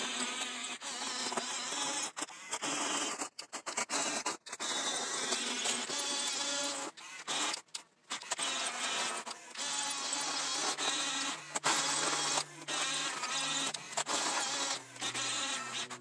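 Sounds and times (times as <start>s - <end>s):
toy bulldozer motors whining: 0.0s - 16.0s.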